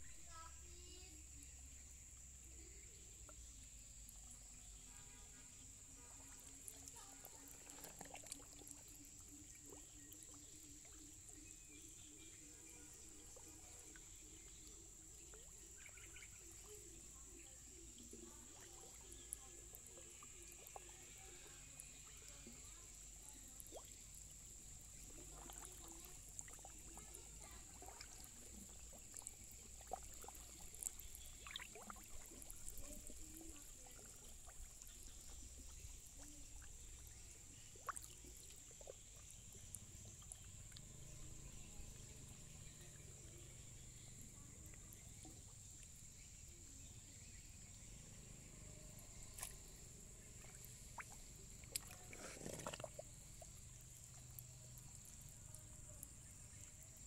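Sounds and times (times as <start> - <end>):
faint ticks and chirps: 0.0 - 57.0.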